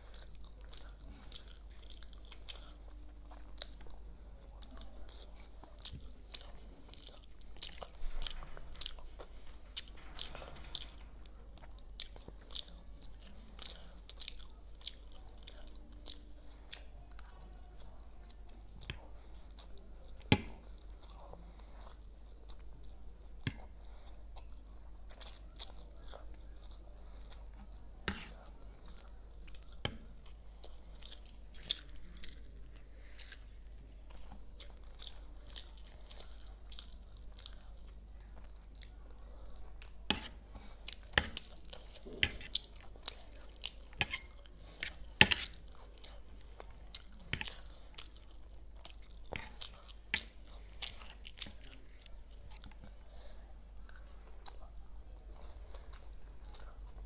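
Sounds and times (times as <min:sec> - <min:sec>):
low steady hum: 0:00.0 - 0:57.0
person chewing noodles: 0:00.0 - 0:57.0.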